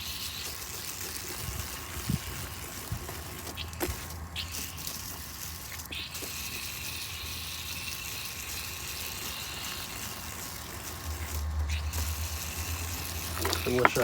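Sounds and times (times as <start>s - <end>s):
garden hose spraying water: 0.0s - 14.0s.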